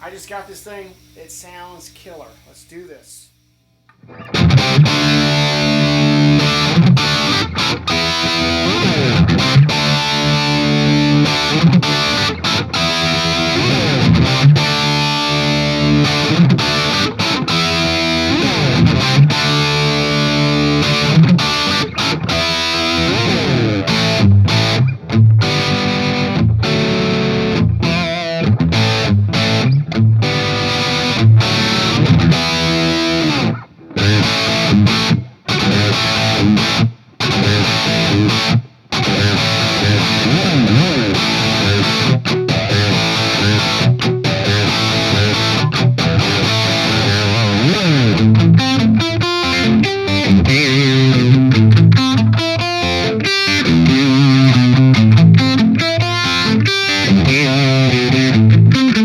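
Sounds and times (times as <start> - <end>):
distorted electric guitar riffs: 0.0 - 59.0.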